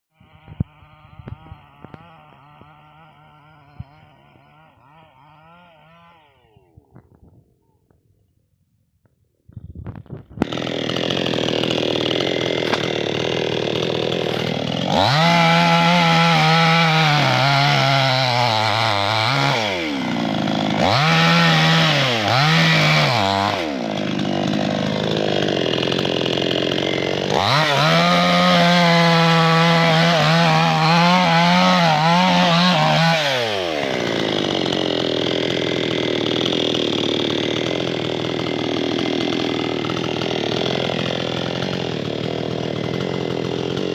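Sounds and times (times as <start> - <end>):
chainsaw idling and revving: 0.1 - 7.2, 10.0 - 43.9.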